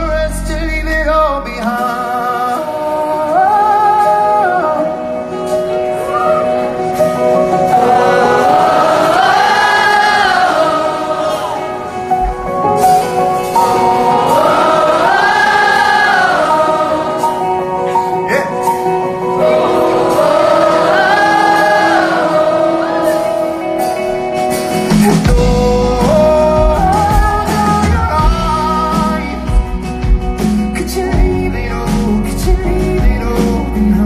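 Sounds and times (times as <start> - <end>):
live pop band playing: 0.0 - 34.0
crowd singing along: 1.6 - 34.0.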